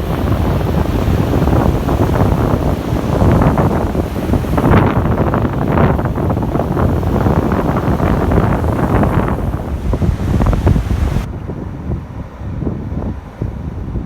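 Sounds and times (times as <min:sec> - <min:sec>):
waves breaking on sandy shore: 0:00.0 - 0:14.0
wind buffeting microphone: 0:00.0 - 0:14.0.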